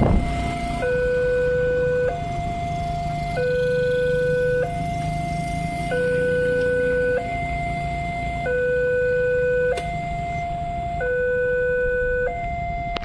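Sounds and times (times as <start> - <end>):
two-tone crossing alarm: 0.0 - 13.0.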